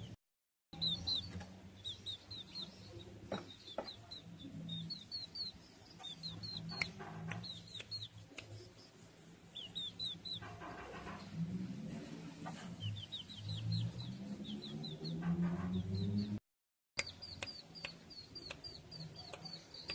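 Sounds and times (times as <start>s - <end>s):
chickens peeping: 0.8s - 16.4s, 17.0s - 19.9s.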